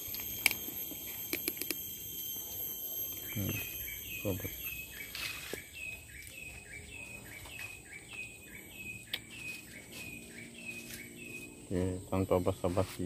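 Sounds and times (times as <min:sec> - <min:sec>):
rhythmic chirping: 0:00.0 - 0:12.6
faint high whine: 0:00.0 - 0:13.0.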